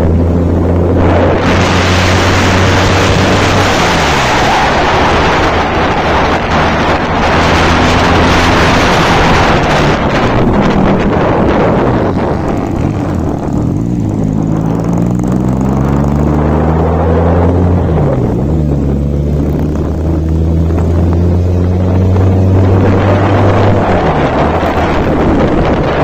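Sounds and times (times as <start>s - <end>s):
motorcycle engine accelerating: 0.0s - 26.0s
wind buffeting microphone: 0.0s - 26.0s.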